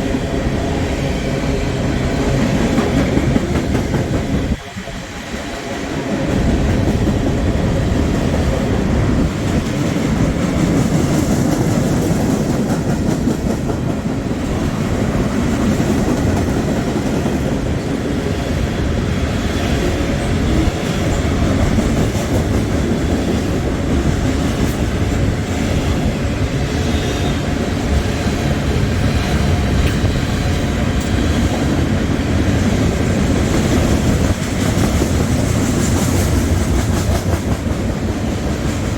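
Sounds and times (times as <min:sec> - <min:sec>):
freight train rumbling on rails: 0:00.0 - 0:38.9.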